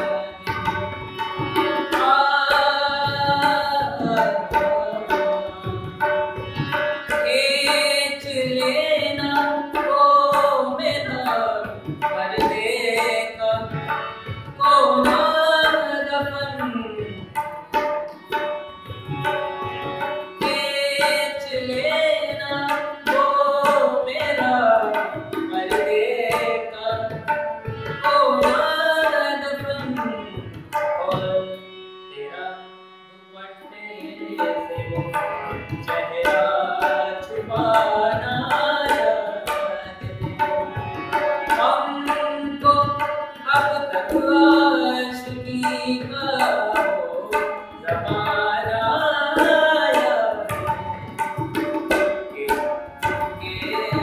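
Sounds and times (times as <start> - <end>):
tabla strokes: 0.0 - 31.0, 34.3 - 54.0
harmonium: 0.0 - 54.0
man singing: 1.5 - 6.1, 7.1 - 17.5, 20.3 - 27.3, 27.9 - 32.7, 33.3 - 54.0.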